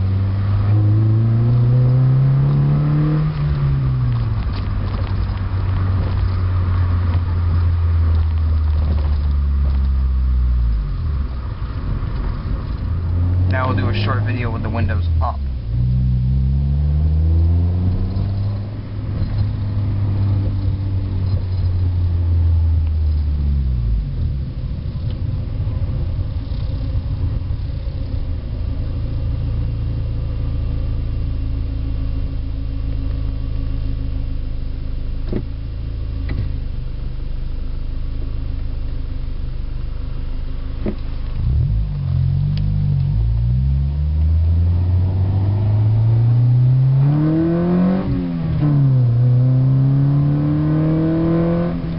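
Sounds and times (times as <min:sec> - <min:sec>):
car engine heard from cabin: 0:00.0 - 0:51.9.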